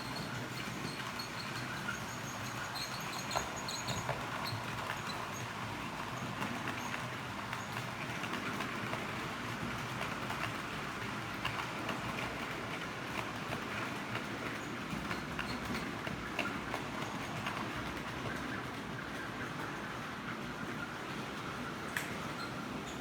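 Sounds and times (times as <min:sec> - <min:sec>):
model train rolling on track: 0:00.0 - 0:23.0
wheels clicking over rail joints: 0:00.0 - 0:23.0.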